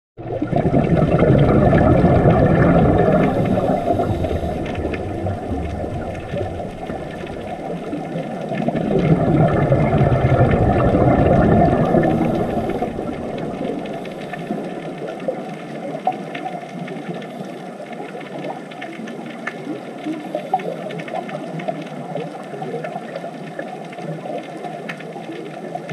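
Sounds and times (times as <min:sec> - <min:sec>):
muffled underwater rush of water: 0:00.2 - 0:25.9.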